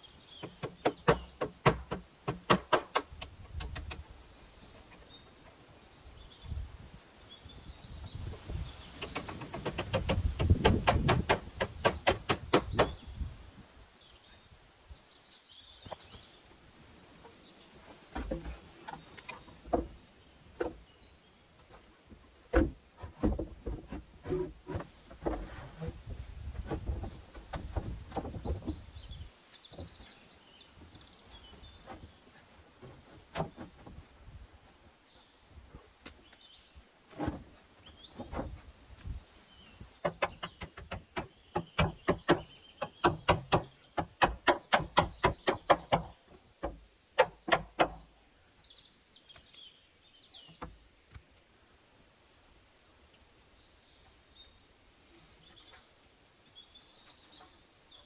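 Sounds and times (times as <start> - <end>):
faint birds chirping: 0.0 - 58.0.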